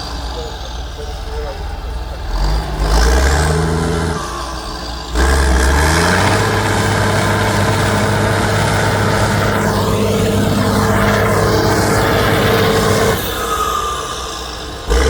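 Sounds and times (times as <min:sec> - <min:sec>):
heavy truck engine revving: 0:00.0 - 0:15.0.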